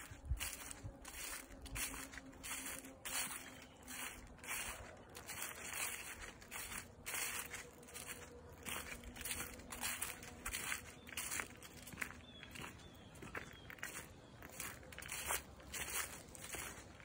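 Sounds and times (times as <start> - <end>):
footsteps crunching leaves and gravel: 0.0 - 17.0.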